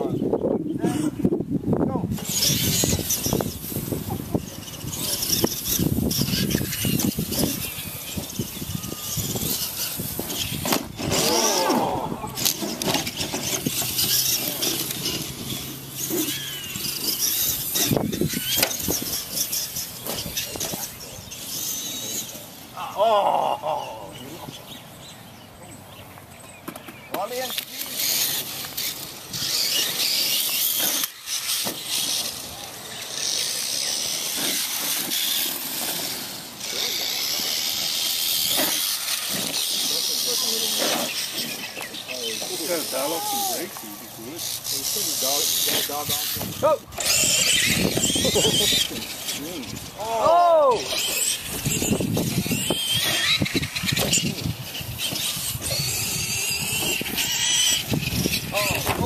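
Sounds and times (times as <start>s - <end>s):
radio-controlled truck motors whirring: 2.0s - 59.0s.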